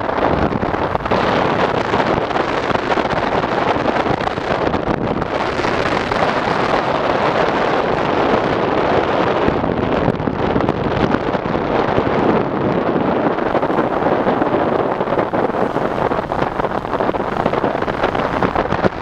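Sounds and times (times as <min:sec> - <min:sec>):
road and vehicle noise: 0:00.0 - 0:19.0
wind buffeting microphone: 0:00.0 - 0:19.0.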